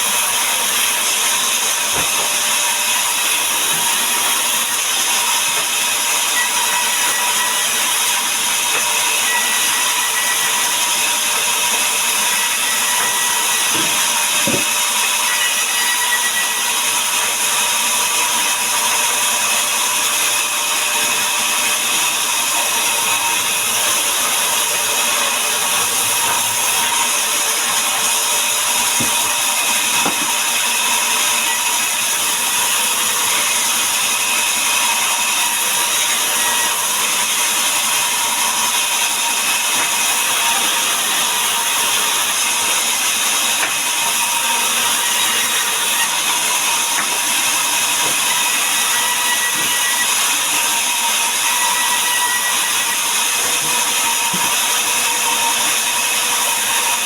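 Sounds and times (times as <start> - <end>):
power saw cutting timber: 0.0 - 57.0.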